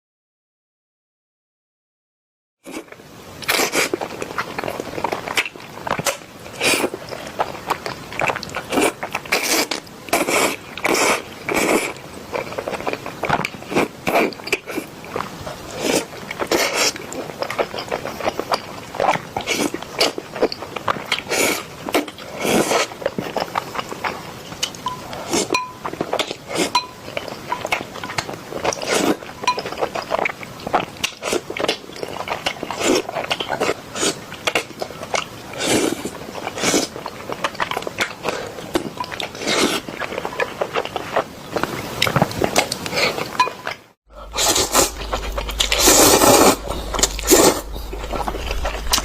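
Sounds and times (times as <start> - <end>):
wet chewing and mouth smacks: 3.4 - 49.0.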